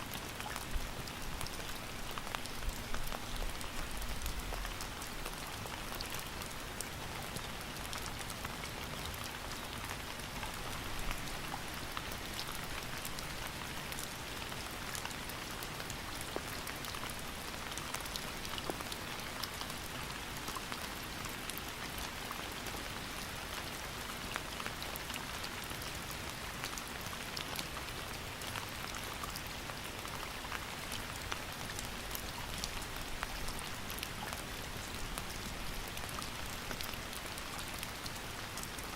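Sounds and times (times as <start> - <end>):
raindrops pattering: 0.0 - 38.9
steady rain hiss: 0.0 - 38.9.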